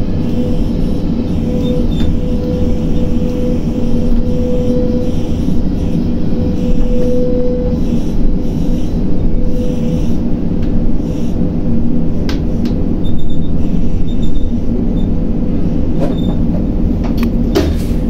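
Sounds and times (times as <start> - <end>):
humming tone: 0.0 - 17.5
crane machinery rumbling: 0.0 - 18.0.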